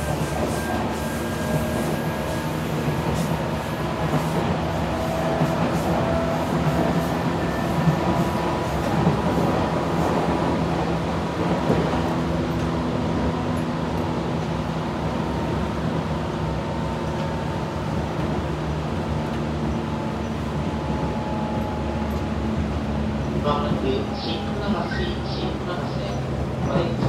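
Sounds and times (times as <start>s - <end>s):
electric train running drone: 0.0s - 27.0s
wheels rumbling on rails: 0.0s - 27.0s.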